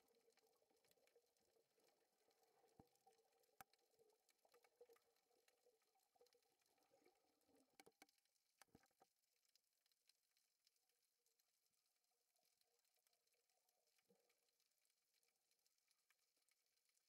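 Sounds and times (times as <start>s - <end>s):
faint clicks: 0.0s - 17.0s.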